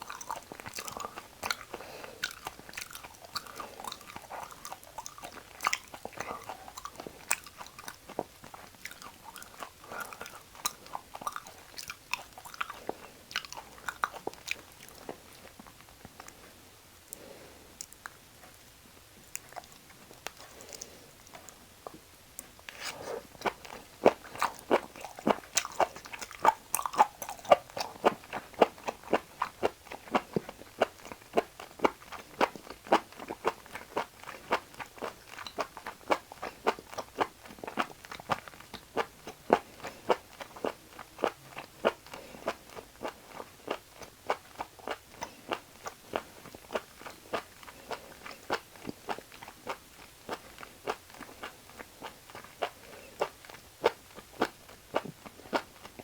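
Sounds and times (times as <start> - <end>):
crunchy moist chewing: 0.0 - 56.0.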